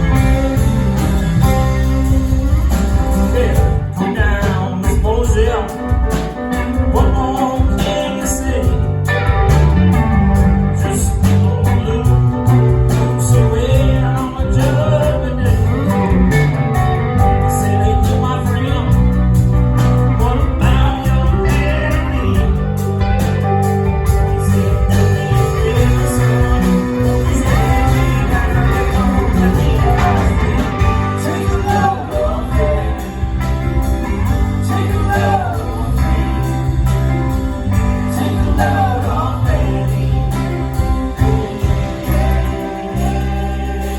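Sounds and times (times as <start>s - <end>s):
bass guitar: 0.0s - 43.9s
drums: 0.0s - 43.9s
electric guitar: 0.0s - 43.9s
person singing: 0.0s - 43.9s.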